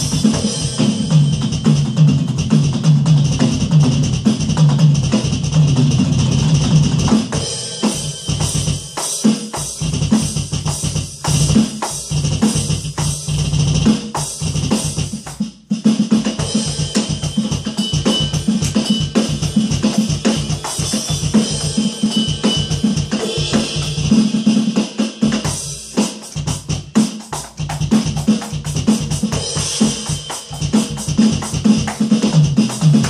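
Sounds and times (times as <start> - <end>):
electronic drum kit beat: 0.0 - 33.0.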